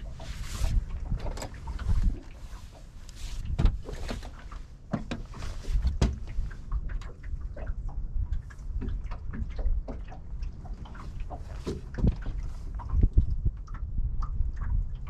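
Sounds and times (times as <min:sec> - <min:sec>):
footsteps on boat deck: 0:00.0 - 0:13.3
constant low rumble: 0:00.0 - 0:15.0.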